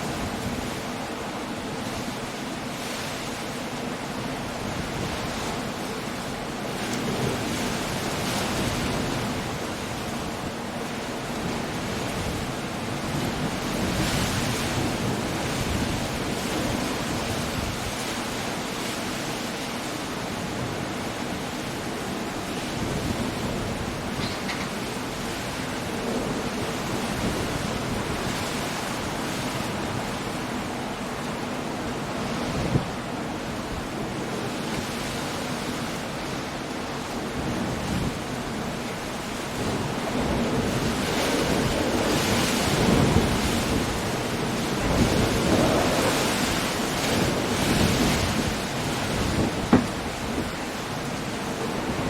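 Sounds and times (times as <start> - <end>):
rain: 0.0 - 52.0
waves breaking on rocks: 0.0 - 52.0
wind: 0.0 - 52.0.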